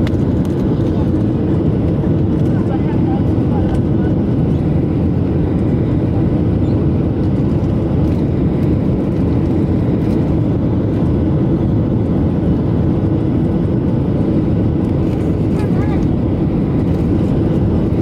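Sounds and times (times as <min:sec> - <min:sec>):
jet cabin engine rumble: 0:00.0 - 0:18.0.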